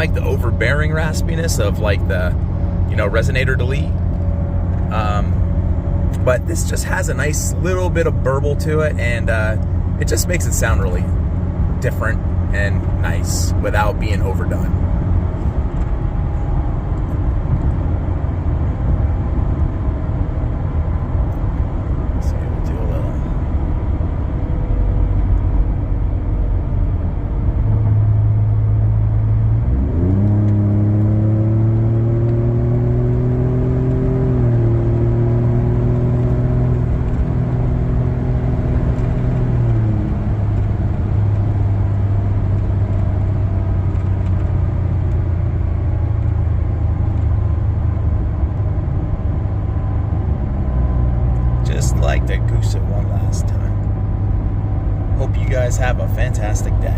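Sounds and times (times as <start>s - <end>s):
truck engine idling and revving: 0.0s - 56.9s.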